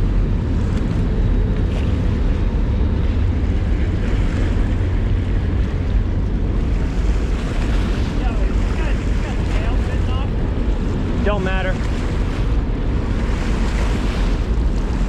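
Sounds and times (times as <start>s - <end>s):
low rumble and rushing: 0.0s - 15.0s
wind buffeting microphone: 0.0s - 15.0s.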